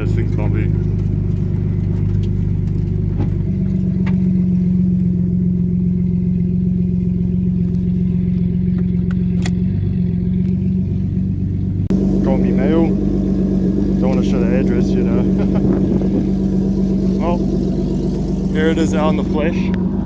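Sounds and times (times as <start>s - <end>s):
car engine running without exhaust: 0.0s - 20.0s.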